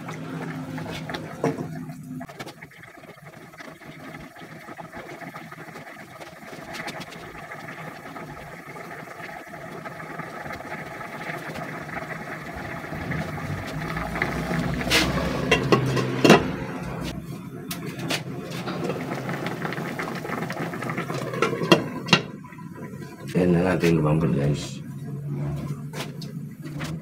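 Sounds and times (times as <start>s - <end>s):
pot boiling on gas burner: 0.0s - 27.0s.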